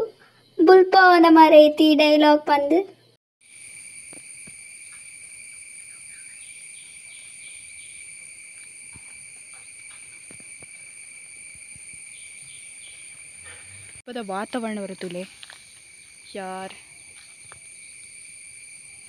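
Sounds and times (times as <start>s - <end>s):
insect chorus trilling: 3.4s - 19.0s.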